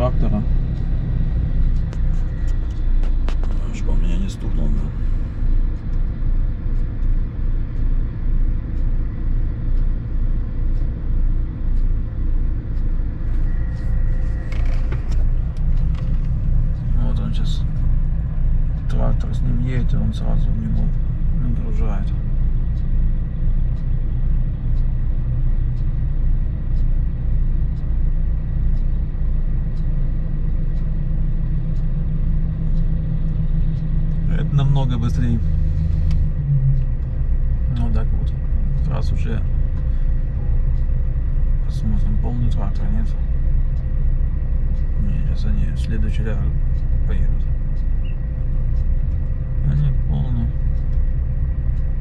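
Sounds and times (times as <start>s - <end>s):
diesel truck engine idling: 0.0s - 52.0s
faint ticks: 0.1s - 52.0s.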